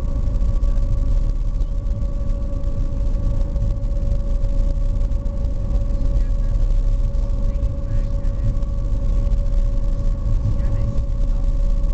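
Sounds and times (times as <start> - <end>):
engine whine: 0.0 - 11.9
ferry engines rumbling: 0.0 - 11.9.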